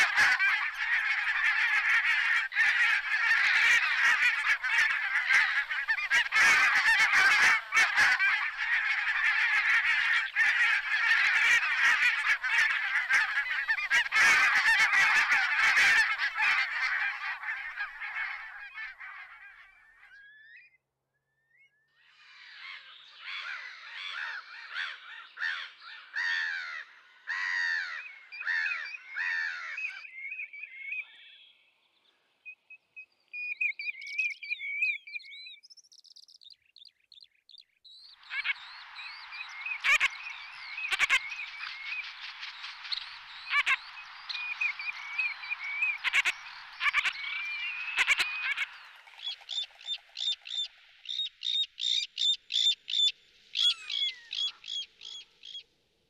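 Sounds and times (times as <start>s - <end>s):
flock of birds chattering: 0.0s - 20.6s, 22.1s - 31.2s, 38.1s - 55.6s
harsh bird calls: 0.0s - 20.8s, 22.2s - 31.5s, 38.1s - 55.6s.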